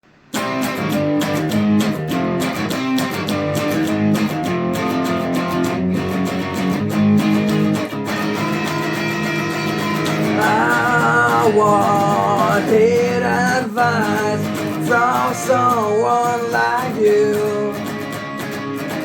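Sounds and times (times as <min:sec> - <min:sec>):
instrumental guitar music: 0:00.0 - 0:19.0.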